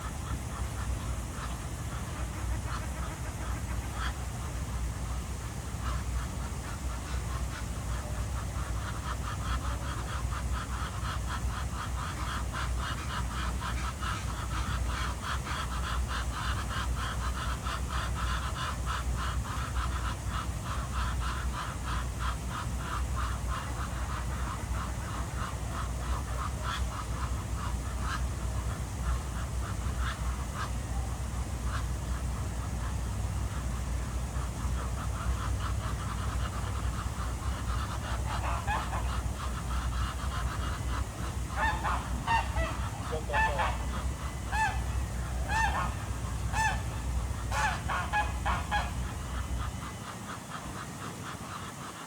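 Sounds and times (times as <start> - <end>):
steady low rumble: 0.0 - 51.6
ducks quacking: 0.0 - 52.0.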